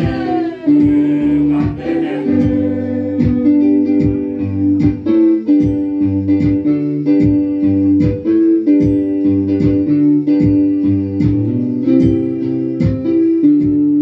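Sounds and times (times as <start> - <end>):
gospel band music: 0.0 - 14.0.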